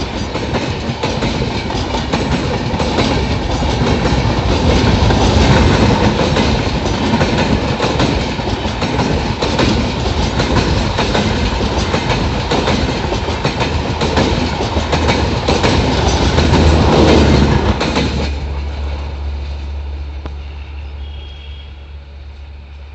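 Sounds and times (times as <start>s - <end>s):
wheels clattering over rail joints: 0.0s - 19.6s
train coaches rushing past: 0.0s - 22.9s.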